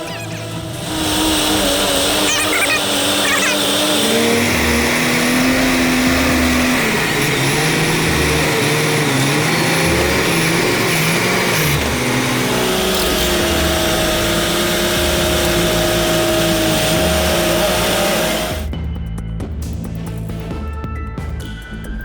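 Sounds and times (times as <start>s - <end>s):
heavy truck engine running: 0.0s - 18.8s.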